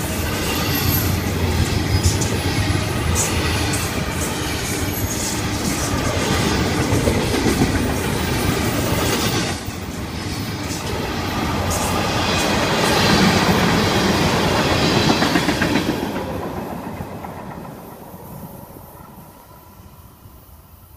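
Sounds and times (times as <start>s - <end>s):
freight train wheels rumbling on track: 0.0s - 20.9s.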